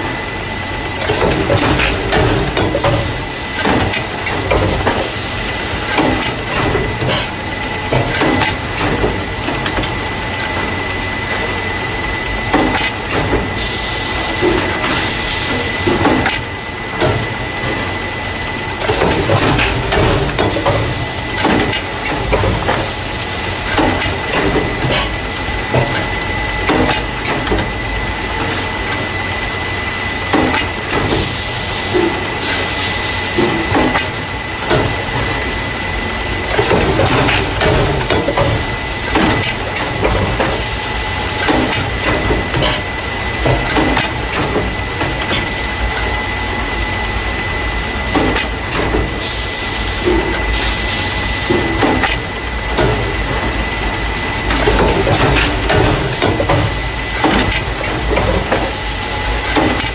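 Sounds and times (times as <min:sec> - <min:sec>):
machine clatter of knocks and clicks: 0:01.0 - 0:29.2, 0:30.2 - 0:46.3, 0:47.5 - 0:59.9.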